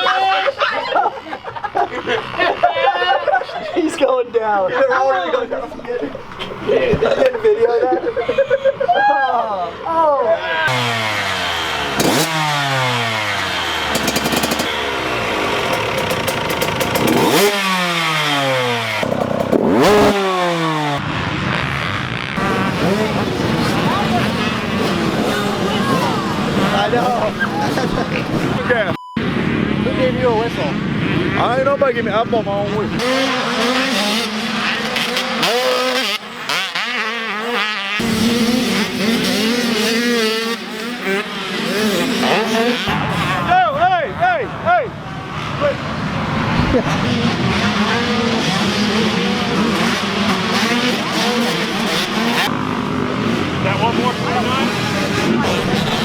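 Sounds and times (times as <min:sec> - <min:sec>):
dirt bike engines: 0:00.0 - 0:56.0.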